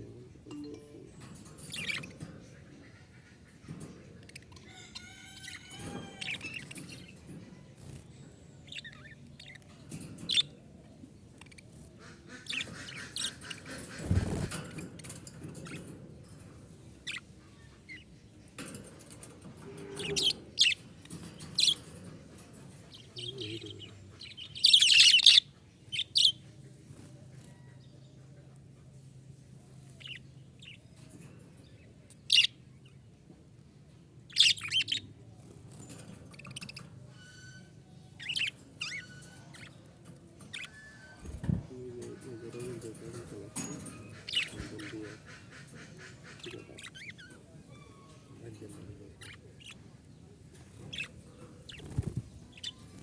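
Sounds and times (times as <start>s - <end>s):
parrots chirping and calling: 0.0s - 26.5s, 29.7s - 31.4s, 32.1s - 33.2s, 34.2s - 53.0s.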